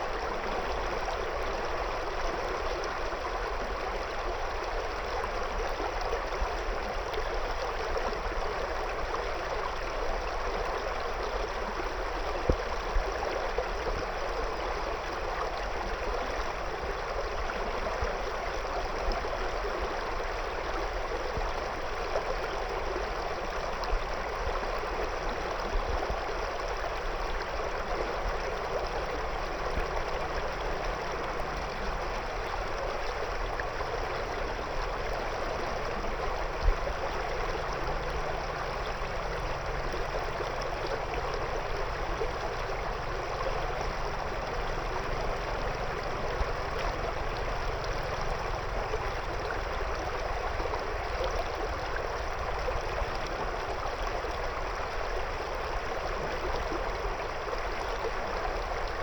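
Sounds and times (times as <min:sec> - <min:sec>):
river water over stones: 0:00.0 - 0:59.0.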